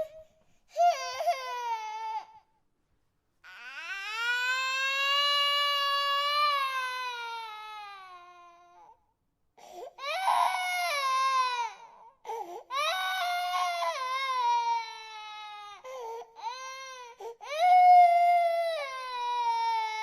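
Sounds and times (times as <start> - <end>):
infant crying: 0.0 - 2.5, 3.4 - 9.0, 9.6 - 20.0.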